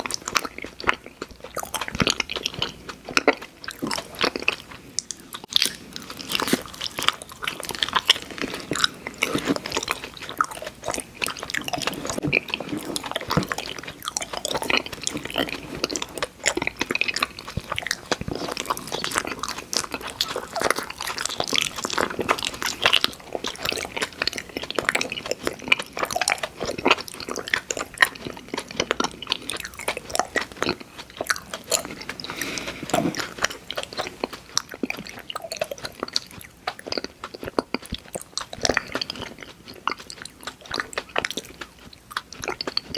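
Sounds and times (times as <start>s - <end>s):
crunchy candy chewing: 0.0s - 42.9s.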